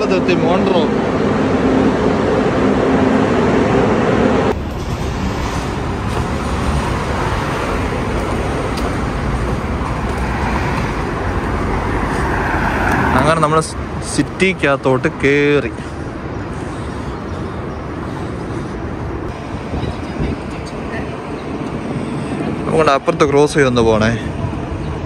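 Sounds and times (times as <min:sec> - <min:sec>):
street traffic noise: 0:00.0 - 0:25.0
subway platform rumble and hum: 0:00.0 - 0:25.0.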